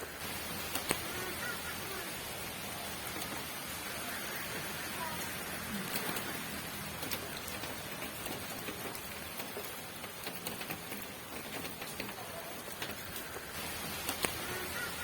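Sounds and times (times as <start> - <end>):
rain hiss: 0.0 - 15.0
raindrops ticking on hard surface: 0.0 - 15.0.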